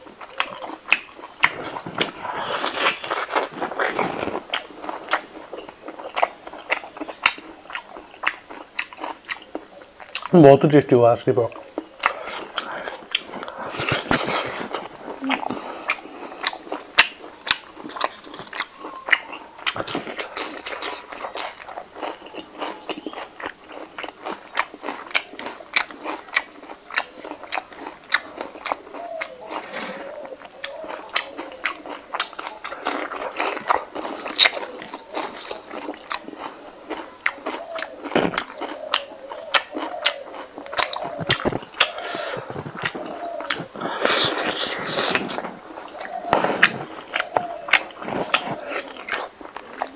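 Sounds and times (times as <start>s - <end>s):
wet chewing and lip-smacking: 0.0s - 49.9s.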